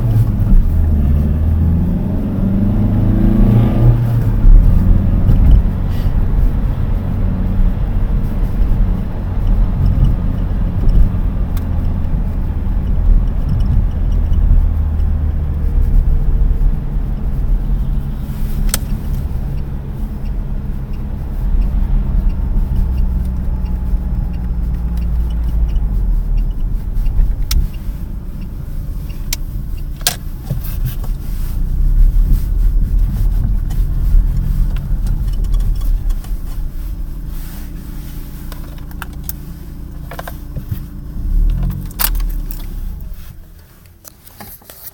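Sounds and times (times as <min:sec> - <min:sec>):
car rumbling in motion: 0:00.0 - 0:44.9.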